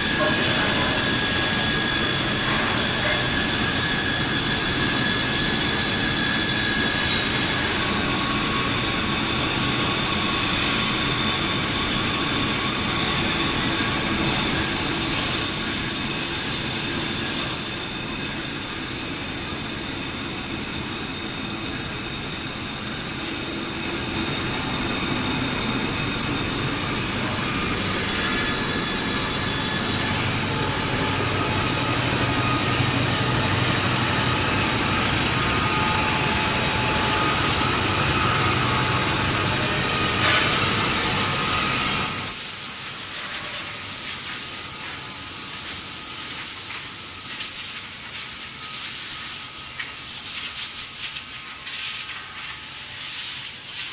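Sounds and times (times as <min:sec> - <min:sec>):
extraction fan running: 0:00.0 - 0:49.9.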